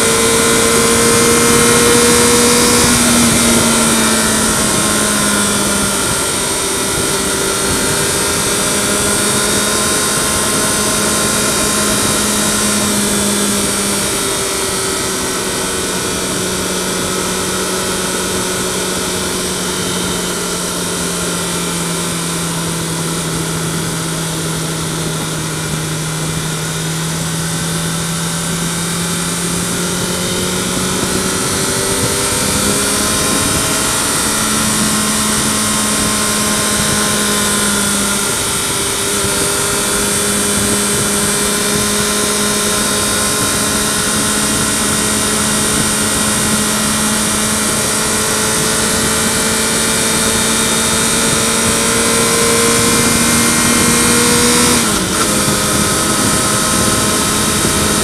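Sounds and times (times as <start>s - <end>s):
motorcycle engine droning: 0.0s - 58.0s
wind and road noise: 0.0s - 58.0s.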